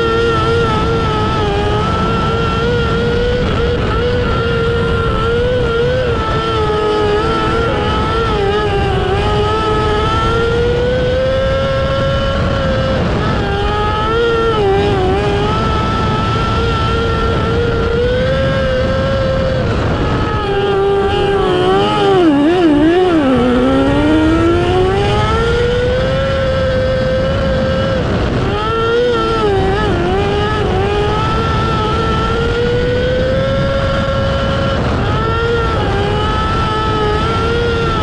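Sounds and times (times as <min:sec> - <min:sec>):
motorcycle engine at high revs: 0:00.0 - 0:38.0.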